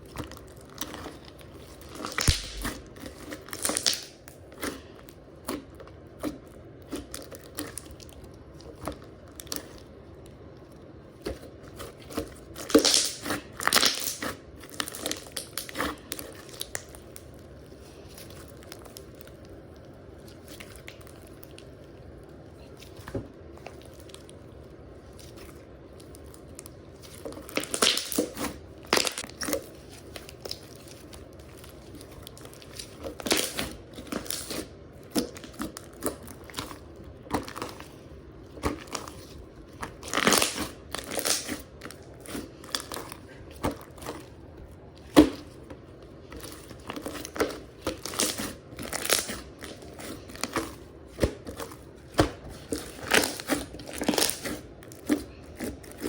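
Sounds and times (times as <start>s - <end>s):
crackling crinkly pops: 0.0s - 56.0s
slime squished by hand: 0.0s - 56.0s.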